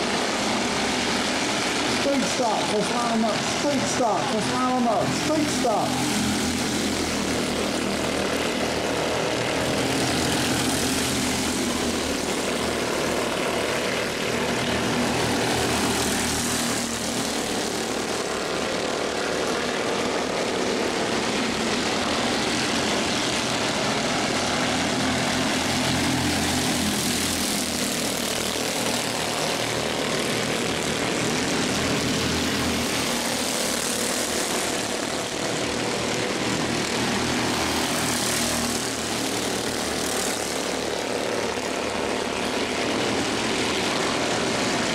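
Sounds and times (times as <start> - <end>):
race car engines passing: 0.0 - 44.9.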